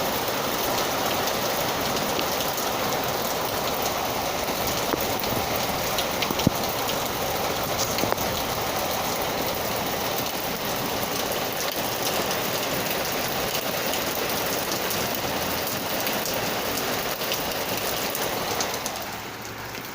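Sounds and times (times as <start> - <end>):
raindrops ticking: 0.0 - 19.9
steady rain falling: 0.0 - 19.9.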